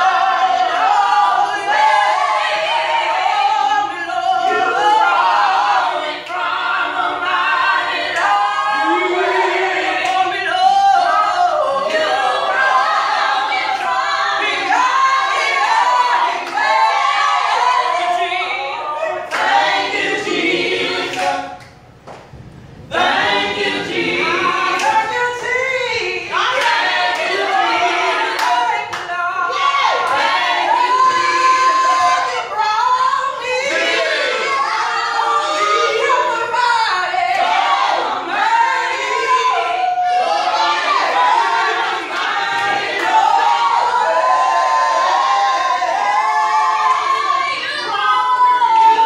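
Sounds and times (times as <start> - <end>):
group singing a cappella: 0.0 - 49.0.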